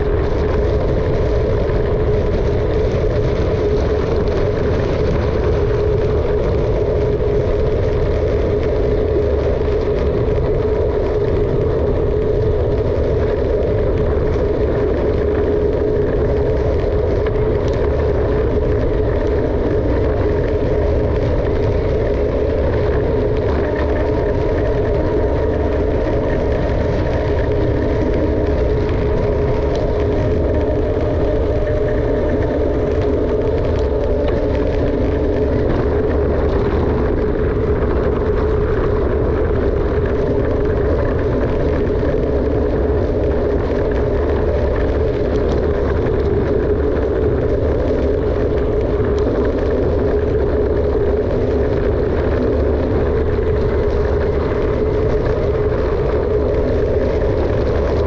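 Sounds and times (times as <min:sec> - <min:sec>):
bike tyre hum: 0:00.0 - 0:58.0
wind rushing over microphone: 0:00.0 - 0:58.0.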